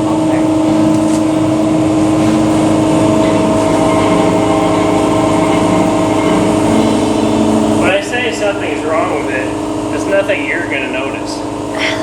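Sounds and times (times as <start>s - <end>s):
steady machine drone: 0.0s - 12.0s.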